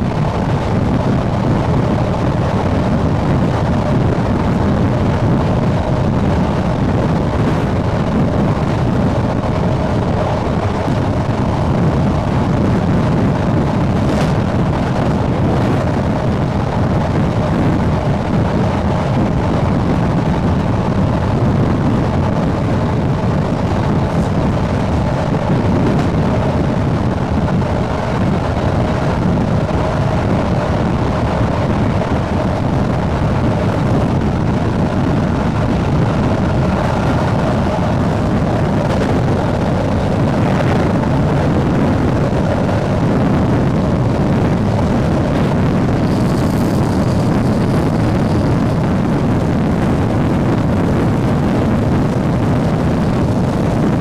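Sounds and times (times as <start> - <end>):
electric train running: 0.0 - 54.0.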